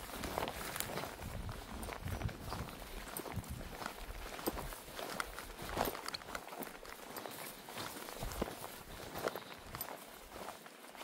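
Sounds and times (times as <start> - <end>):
footsteps walking: 0.0 - 11.0.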